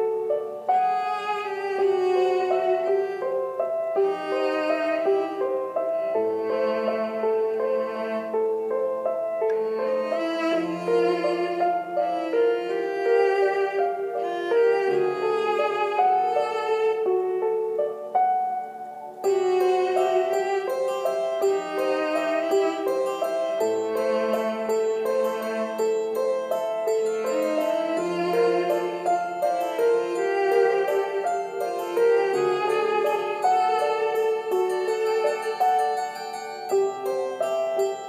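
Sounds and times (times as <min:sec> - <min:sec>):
instrumental background music: 0:00.0 - 0:38.0.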